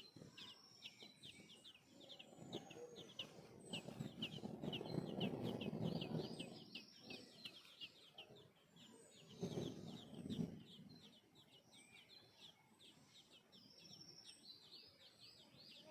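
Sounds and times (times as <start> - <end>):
hatchlings begging chirps: 0.0 - 15.9.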